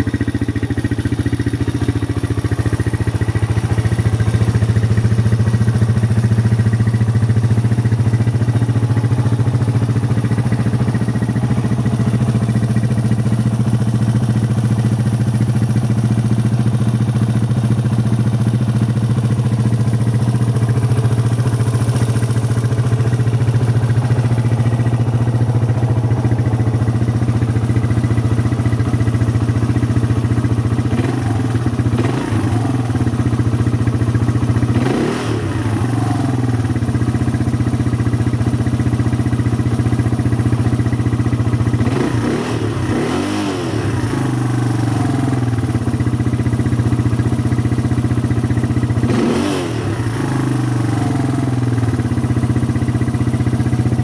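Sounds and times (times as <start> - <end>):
quad engine idling and revving: 0.0 - 54.0.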